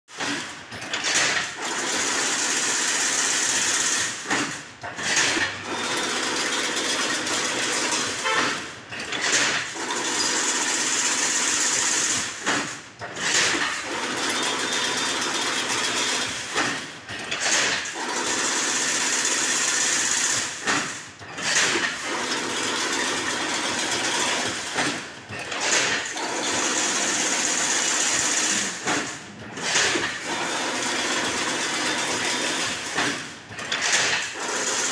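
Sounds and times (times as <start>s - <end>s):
machine whirring and rattling: 0.1s - 34.9s.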